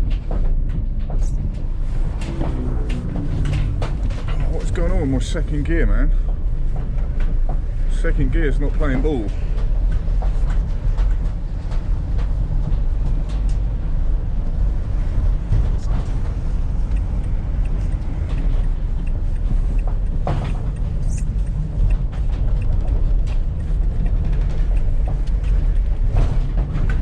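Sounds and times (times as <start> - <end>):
small knocks and rattles: 0.0 - 27.0
van engine and road rumble: 0.0 - 27.0.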